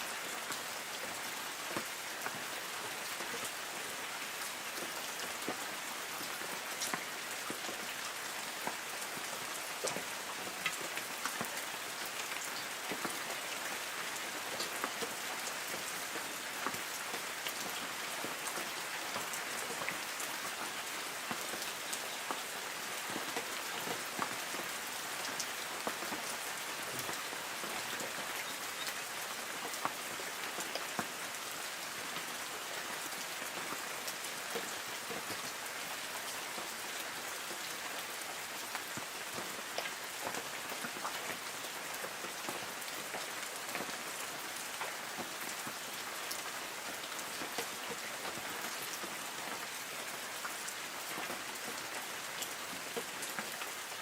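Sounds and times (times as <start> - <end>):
light rain hissing on trees: 0.0 - 54.0.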